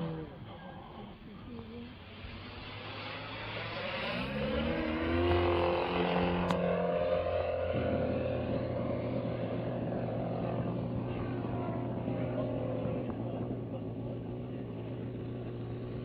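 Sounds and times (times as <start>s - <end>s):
model plane engine and propeller: 0.0s - 16.0s.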